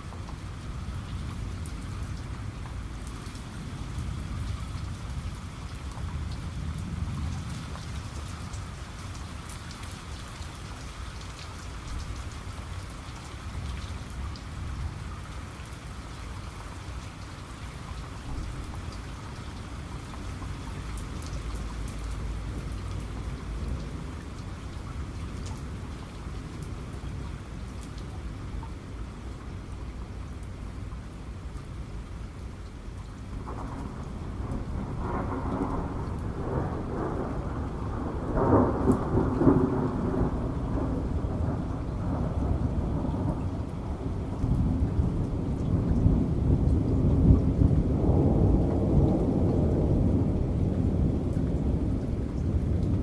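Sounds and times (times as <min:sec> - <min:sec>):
raindrop ticks: 0:00.0 - 0:14.8, 0:16.5 - 0:53.0
heavy rain falling: 0:00.0 - 0:53.0.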